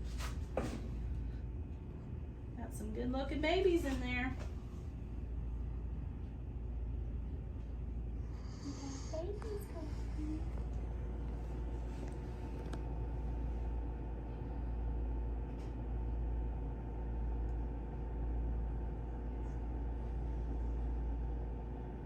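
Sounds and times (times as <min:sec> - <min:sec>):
faint electrical hum: 0:00.0 - 0:22.0
low room rumble: 0:00.0 - 0:22.0.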